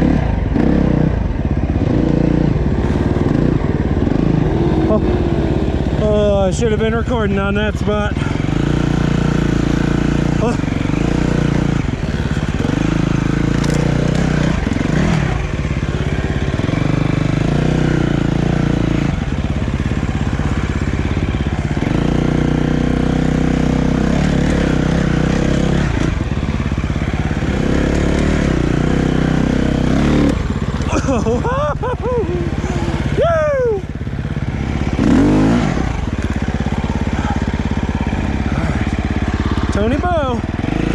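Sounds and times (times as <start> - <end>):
dirt bike engine: 0.0 - 40.9.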